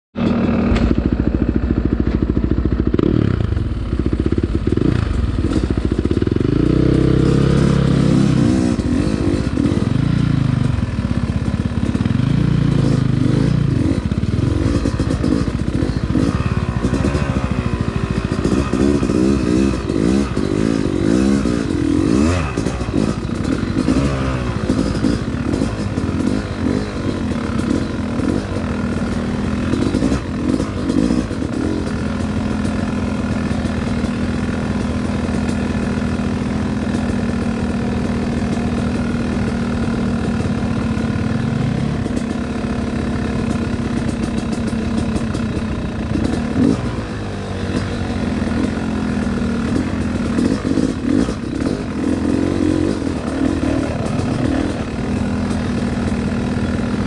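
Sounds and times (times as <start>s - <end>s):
dirt bike engine revving: 0.2s - 57.0s.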